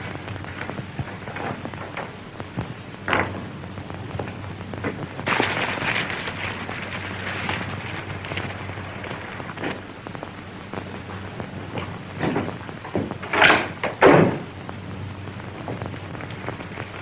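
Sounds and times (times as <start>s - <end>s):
burst of noise: 0.0s - 17.0s
film soundtrack hiss and crackle: 0.0s - 17.0s
steady low hum: 0.0s - 17.0s.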